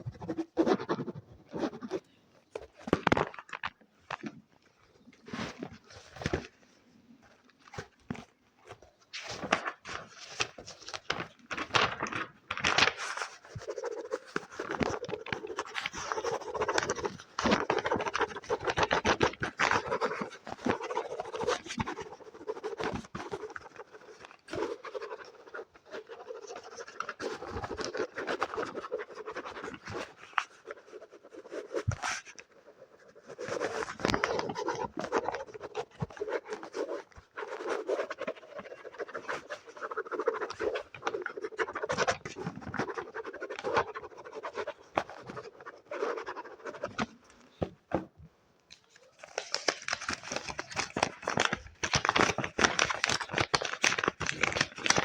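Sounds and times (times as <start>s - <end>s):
fast scratching and rubbing: 0.0s - 3.3s, 7.6s - 48.1s, 48.8s - 55.0s.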